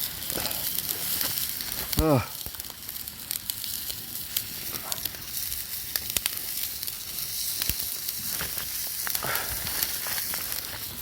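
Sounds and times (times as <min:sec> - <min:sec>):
sizzling hiss: 0:00.0 - 0:11.0
wood fire crackling: 0:00.0 - 0:11.0.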